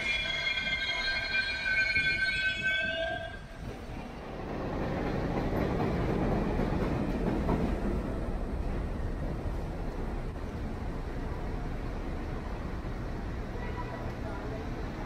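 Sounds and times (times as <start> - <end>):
elevated train rumbling overhead: 0.0 - 15.0.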